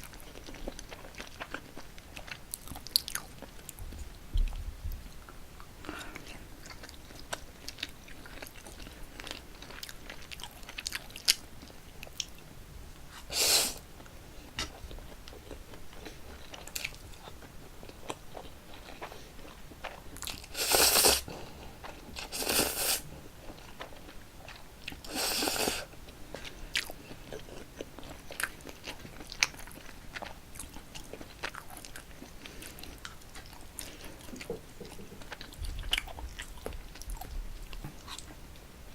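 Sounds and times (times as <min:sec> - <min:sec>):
person chewing noodles: 0:00.0 - 0:38.4.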